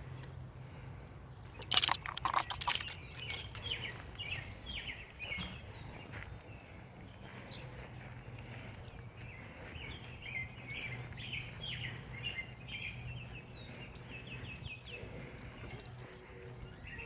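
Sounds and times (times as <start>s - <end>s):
small birds chirping: 0.0s - 17.0s
steady low hum: 3.0s - 17.0s.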